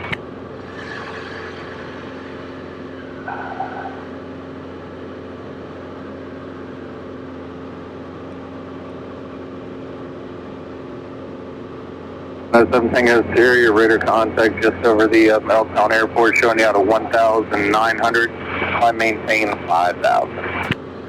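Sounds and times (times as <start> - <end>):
airplane engine and propeller drone: 0.0 - 21.0.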